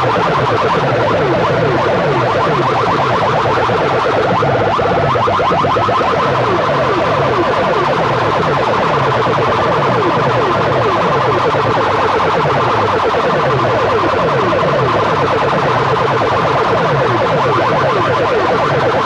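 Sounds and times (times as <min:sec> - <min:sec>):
electronic siren-like falling sweeps: 0:00.0 - 0:19.0.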